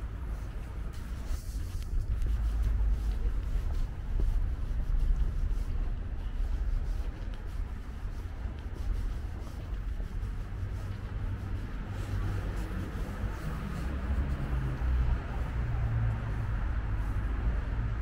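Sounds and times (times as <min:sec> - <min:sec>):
uneven low rumble: 0:00.0 - 0:18.0.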